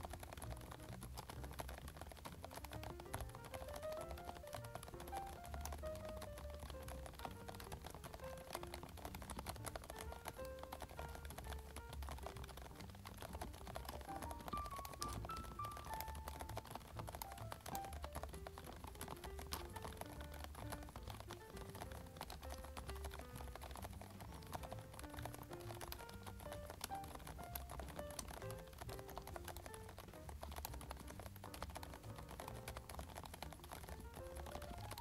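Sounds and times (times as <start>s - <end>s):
background music: 0.0s - 35.0s.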